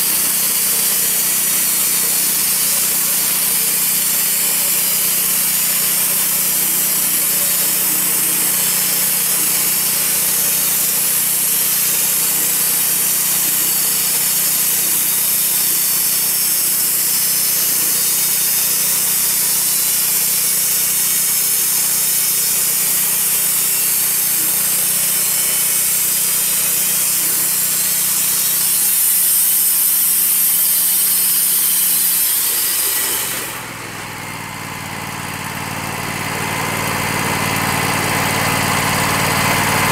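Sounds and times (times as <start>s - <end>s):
band blade cutting hiss: 0.0s - 33.8s
sawmill engine running: 0.0s - 39.9s.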